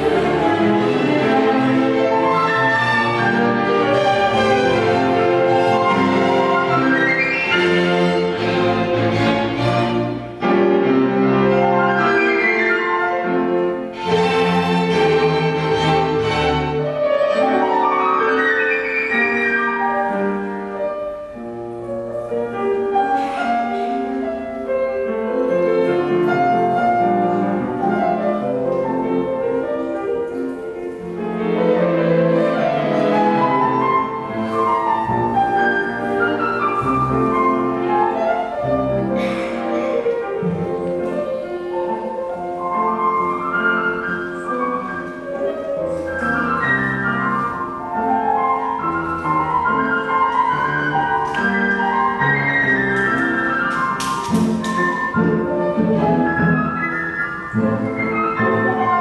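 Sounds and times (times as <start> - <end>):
piano: 0.0 - 59.0
strings playing classical music: 0.0 - 59.0.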